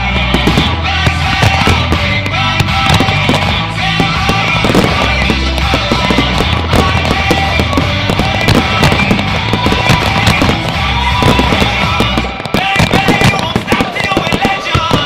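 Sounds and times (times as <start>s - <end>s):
fireworks bursting and crackling: 0.0s - 15.0s
heavy rock music: 0.0s - 15.0s
sharp bangs: 0.0s - 15.0s.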